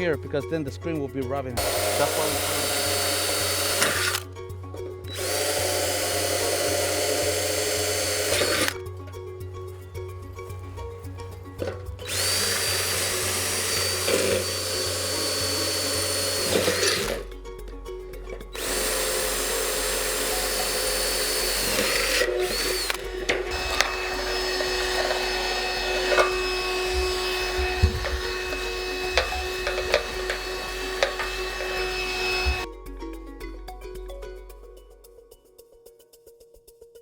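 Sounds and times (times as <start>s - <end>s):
handling clicks and knocks: 1.6s - 32.7s
power drill whining: 1.6s - 32.7s.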